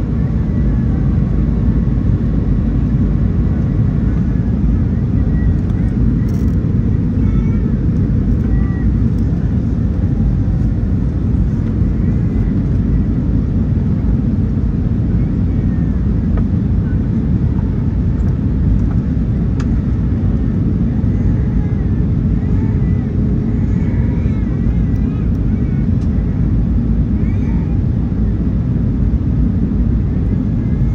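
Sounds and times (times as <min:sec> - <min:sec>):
jet engines rumbling: 0:00.0 - 0:30.9.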